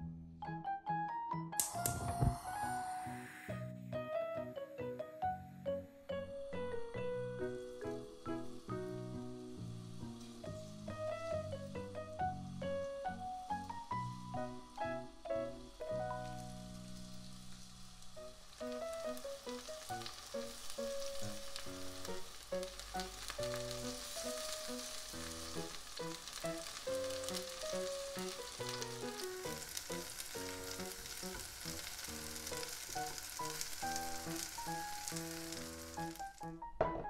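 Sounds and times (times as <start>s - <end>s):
background music: 0.0s - 37.0s
battered food sizzling in oil: 6.6s - 36.6s.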